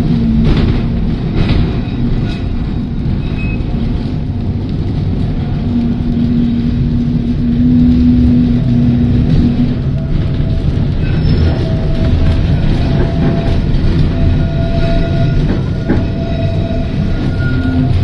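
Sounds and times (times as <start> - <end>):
tram motors humming: 0.0 - 18.0
tram wheels rumbling on track: 0.0 - 18.0.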